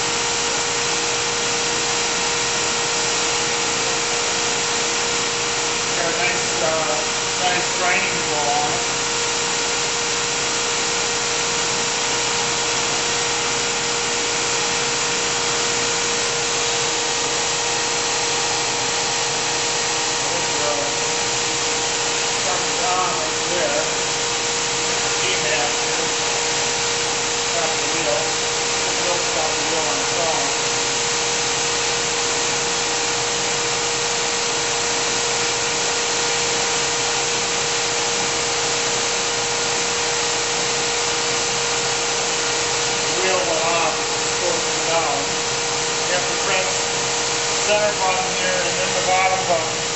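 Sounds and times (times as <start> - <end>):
grinder machine whir: 0.0 - 49.9.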